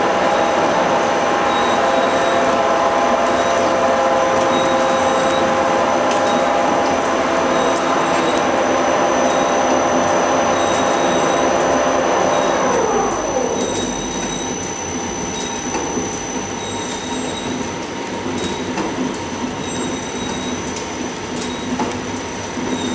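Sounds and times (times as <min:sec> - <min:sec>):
packaging machine whine: 0:00.0 - 0:22.9.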